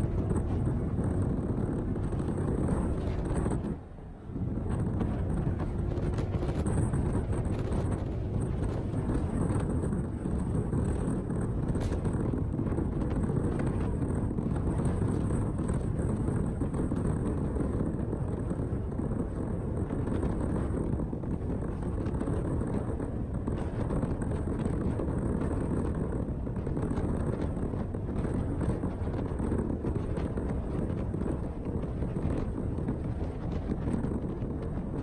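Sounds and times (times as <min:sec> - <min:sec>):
motorcycle tyre and engine noise: 0:00.0 - 0:35.0
wind rush on microphone: 0:00.0 - 0:35.0.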